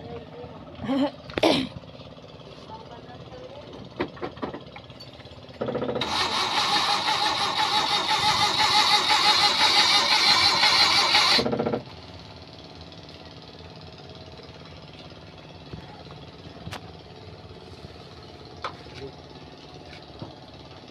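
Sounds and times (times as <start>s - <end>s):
starter motor cranking engine: 3.6s - 20.9s.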